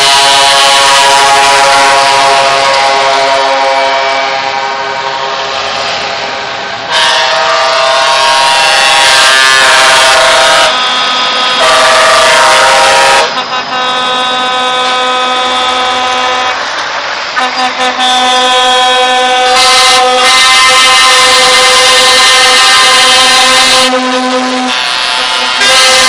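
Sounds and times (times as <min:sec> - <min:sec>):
truck air horns blaring: 0:00.0 - 0:26.0.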